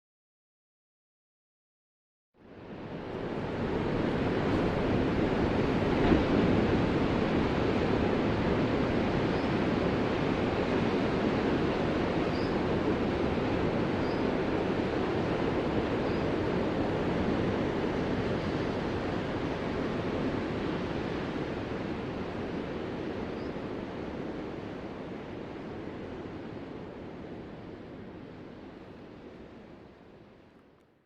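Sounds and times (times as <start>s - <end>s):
ocean waves washing: 2.6s - 30.0s.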